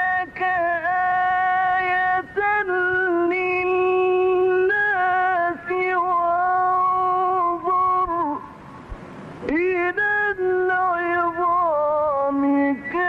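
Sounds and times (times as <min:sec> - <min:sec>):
man reciting melodically: 0:00.0 - 0:08.6, 0:09.5 - 0:13.0.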